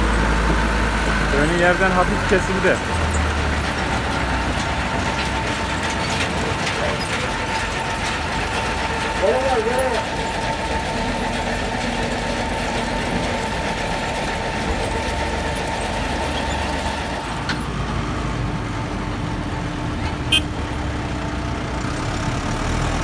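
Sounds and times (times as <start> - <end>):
diesel tractor engines running: 0.0 - 23.0.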